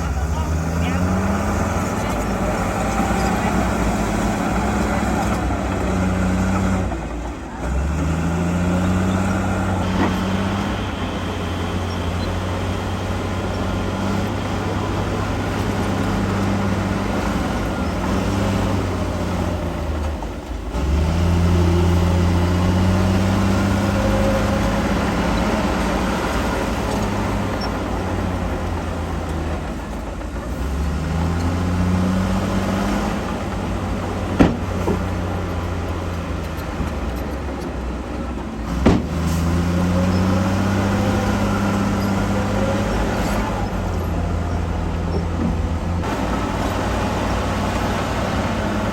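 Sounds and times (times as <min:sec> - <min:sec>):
heavy diesel engine revving: 0:00.0 - 0:48.9.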